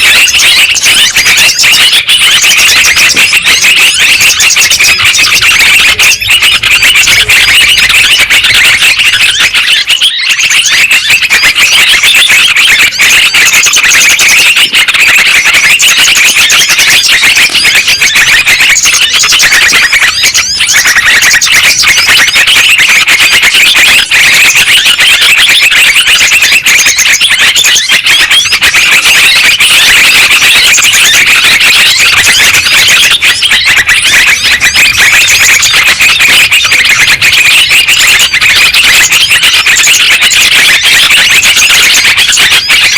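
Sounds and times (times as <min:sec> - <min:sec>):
bulbuls chattering calls: 0:00.0 - 0:42.9.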